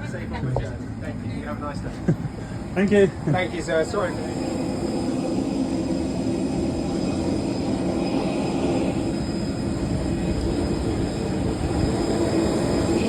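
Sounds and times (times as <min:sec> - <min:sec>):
droning hum: 0:00.0 - 0:13.0
low mechanical rumble: 0:00.0 - 0:13.0.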